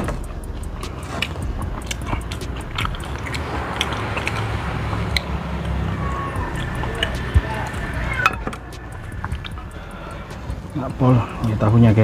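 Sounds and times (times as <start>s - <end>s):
crunchy chewing: 0.0s - 11.6s
wet mouth sounds: 0.2s - 11.5s.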